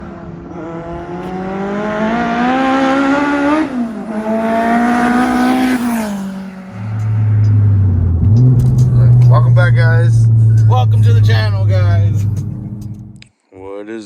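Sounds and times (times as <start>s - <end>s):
car engine accelerating hard: 0.0s - 13.2s.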